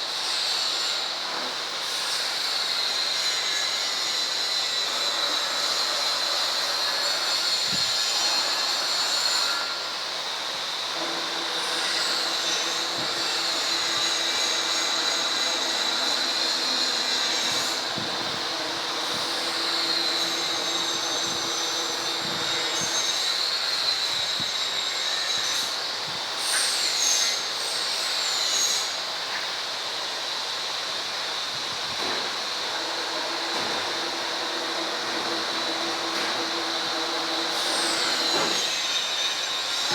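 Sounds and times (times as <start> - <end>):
milling machine whine: 0.2 - 28.9, 31.9 - 39.9.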